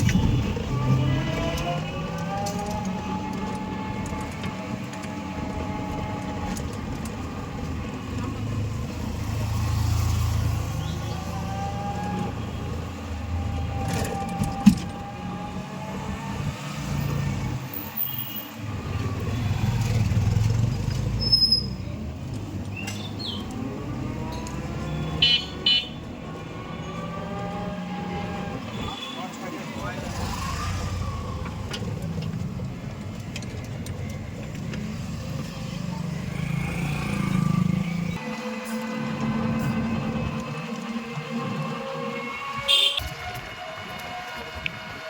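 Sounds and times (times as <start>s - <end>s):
vehicle engine hum with whine: 0.0s - 45.0s.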